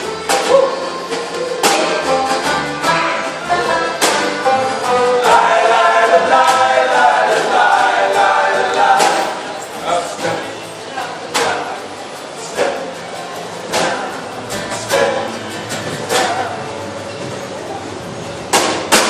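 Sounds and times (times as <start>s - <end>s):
folk band playing live: 0.0s - 19.0s
voices singing together: 0.4s - 16.9s.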